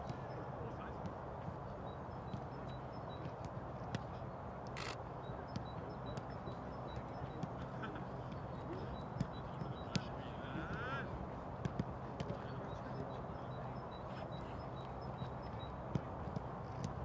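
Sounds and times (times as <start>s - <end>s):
faint distant voices: 0.0s - 17.0s.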